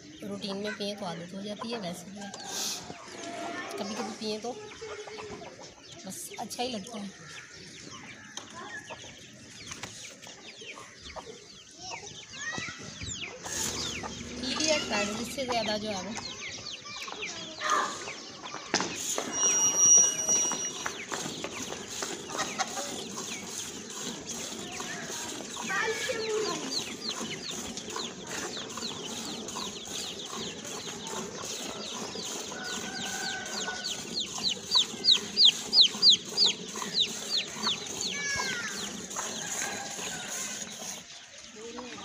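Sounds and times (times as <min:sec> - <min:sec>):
hens clucking: 0:00.0 - 0:12.2, 0:12.8 - 0:42.0.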